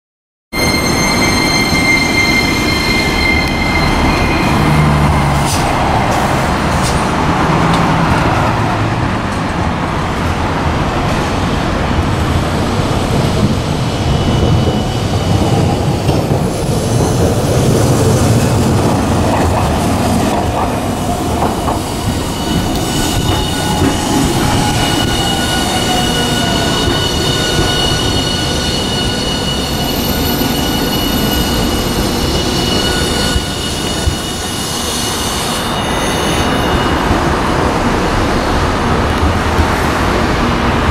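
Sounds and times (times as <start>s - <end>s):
tram wheels squealing on rails: 0.5s - 8.6s, 12.4s - 40.8s
tram rumble: 0.5s - 40.9s.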